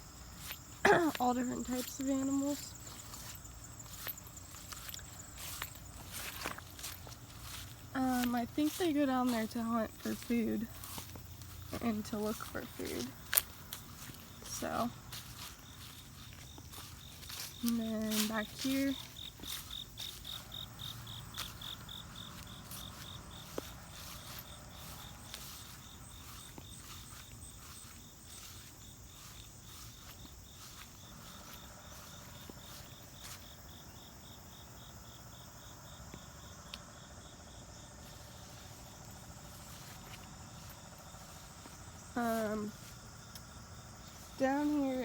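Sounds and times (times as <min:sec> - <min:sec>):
insects chirping: 0:00.0 - 0:45.0.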